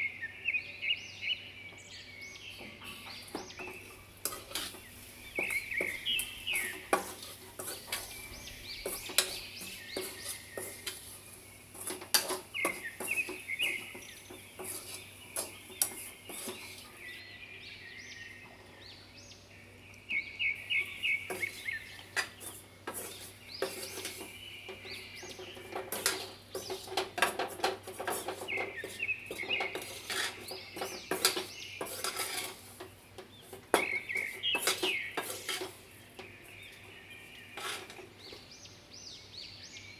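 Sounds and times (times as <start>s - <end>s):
metal spoon scraping dry mixture: 2.5s - 17.3s, 20.8s - 38.4s.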